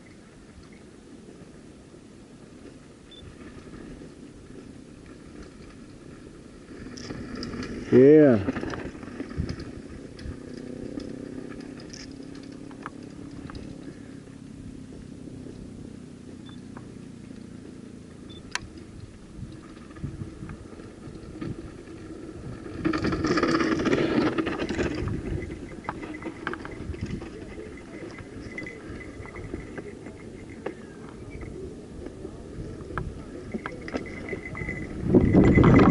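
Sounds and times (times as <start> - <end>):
bike tyres on dirt trail: 0.0 - 35.9
bike rattling over bumps: 2.4 - 35.9.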